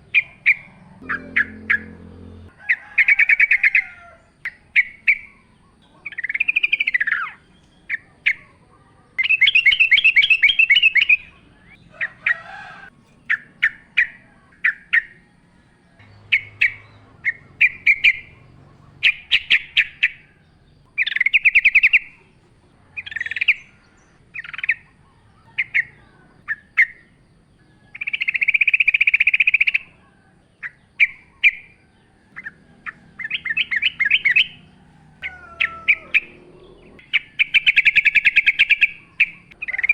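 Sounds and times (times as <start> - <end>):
bird chirping and trilling: 0.0 - 12.4, 13.0 - 22.4, 23.0 - 30.0, 30.6 - 39.9.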